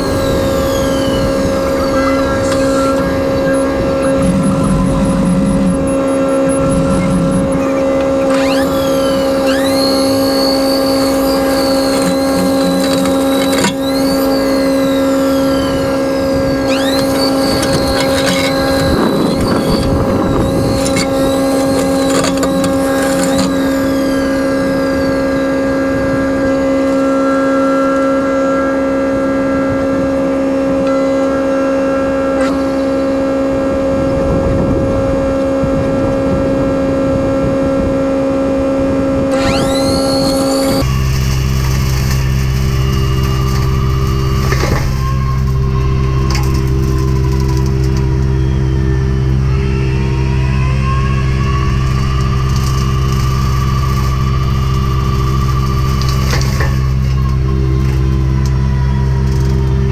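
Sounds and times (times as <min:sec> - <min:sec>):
brush mulcher hum: 0:00.0 - 0:59.9
high whine swooping: 0:00.0 - 0:59.9.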